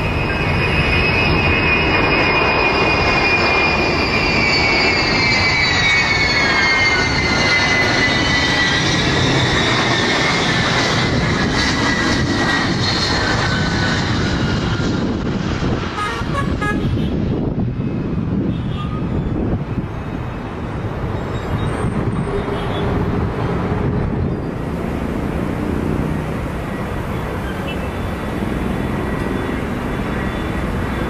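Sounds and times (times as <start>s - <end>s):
jet engines roaring and whining: 0.0s - 31.0s.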